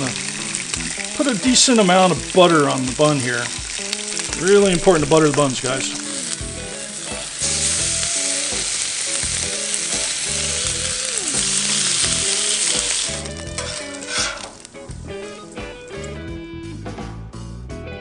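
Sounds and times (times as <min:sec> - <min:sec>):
bacon sizzling on a griddle: 0:00.0 - 0:15.6.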